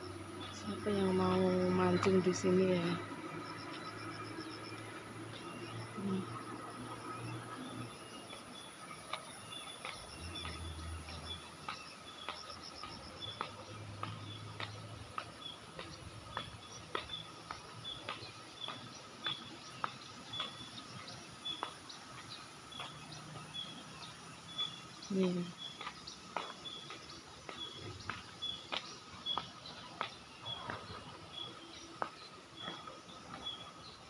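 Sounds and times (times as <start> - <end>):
insect chirping: 0.0 - 34.0.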